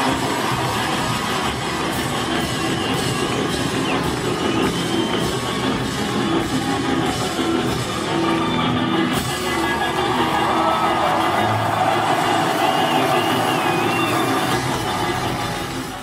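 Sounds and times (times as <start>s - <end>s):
drum kit: 0.0s - 16.0s.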